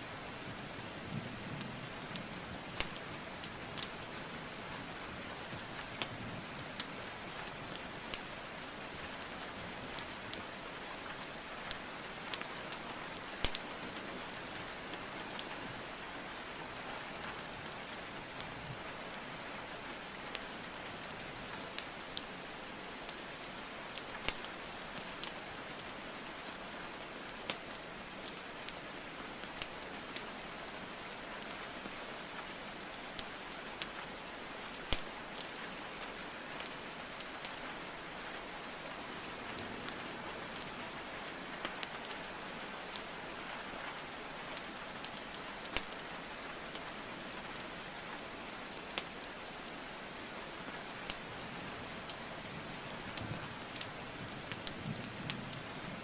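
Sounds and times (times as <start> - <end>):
steady rainfall: 0.0 - 56.0
burning logs crackling: 1.6 - 16.2, 17.0 - 55.9.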